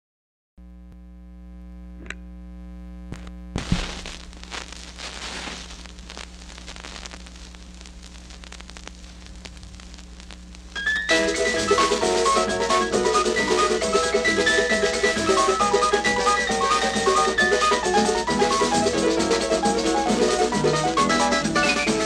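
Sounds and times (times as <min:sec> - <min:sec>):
electrical hum: 0:00.6 - 0:22.0
record surface hiss and crackle: 0:00.6 - 0:22.0.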